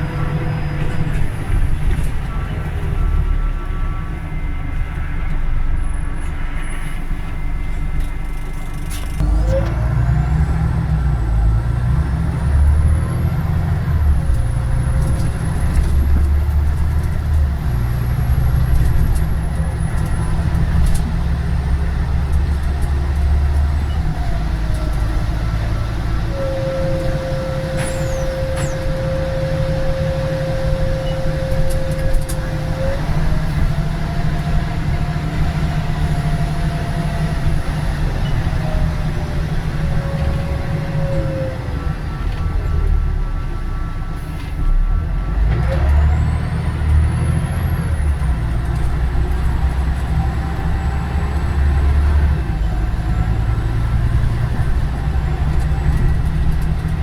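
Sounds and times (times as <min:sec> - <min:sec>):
bus engine rumble: 0:00.0 - 0:57.0
transmission whine: 0:00.0 - 0:57.0.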